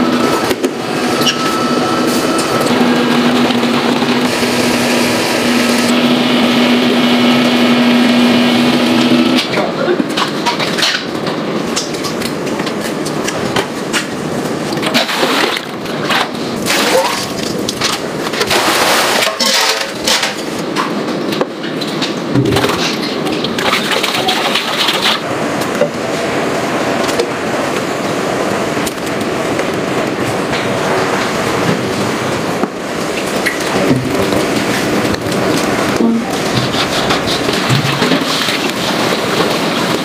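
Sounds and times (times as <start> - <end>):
machinery and bowls clattering: 0.0 - 40.0
water churning in tank: 0.0 - 40.0.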